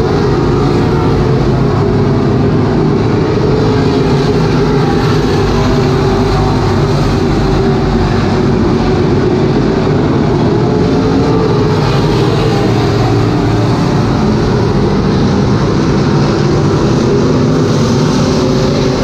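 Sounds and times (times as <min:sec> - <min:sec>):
race car engines roaring: 0:00.0 - 0:19.0.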